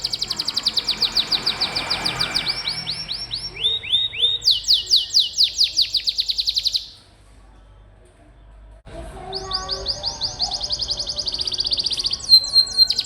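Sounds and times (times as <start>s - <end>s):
canary singing trills: 0.0s - 7.1s, 9.2s - 13.0s.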